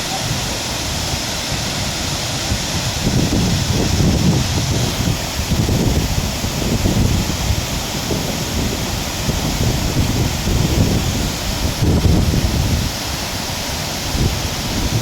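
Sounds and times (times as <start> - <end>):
waterfall rushing: 0.0 - 15.0
wind buffeting microphone: 0.0 - 15.0.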